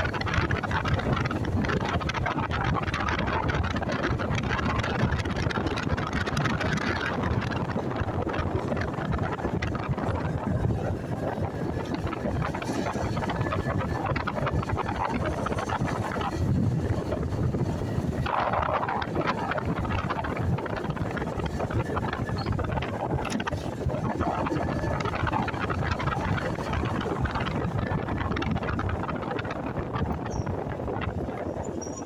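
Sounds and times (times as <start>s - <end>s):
road noise: 0.0s - 32.0s
wind buffeting microphone: 0.0s - 32.0s.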